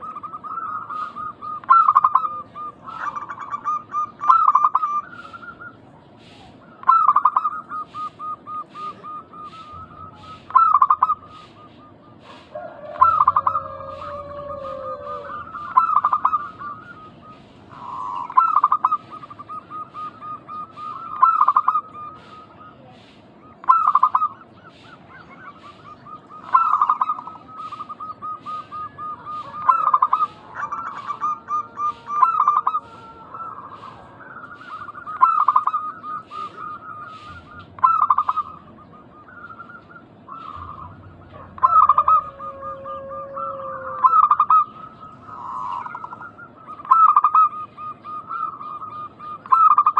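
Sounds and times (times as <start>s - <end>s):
doves cooing: 0.0s - 49.9s.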